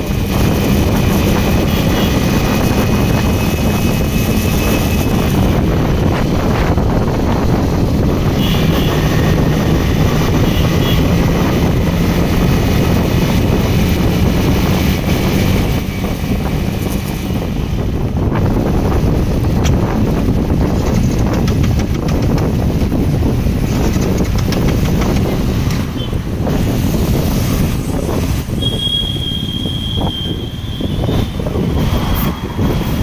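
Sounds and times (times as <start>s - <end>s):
motorcycle engine cruising: 0.0s - 33.0s
road noise: 0.0s - 33.0s
wind rushing on microphone: 0.0s - 33.0s.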